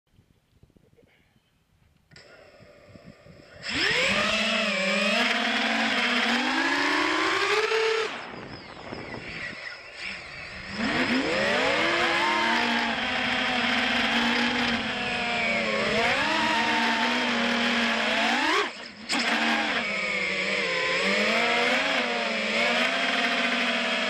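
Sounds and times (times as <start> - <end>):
quadcopter motors whining: 2.1 - 24.0.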